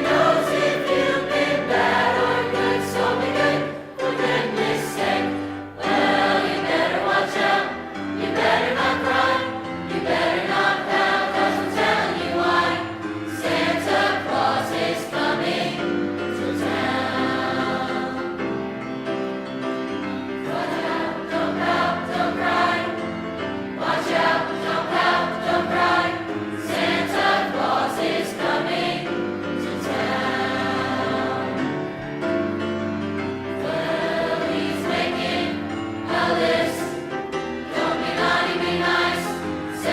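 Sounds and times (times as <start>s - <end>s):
choir singing: 0.0s - 19.0s, 20.0s - 39.9s.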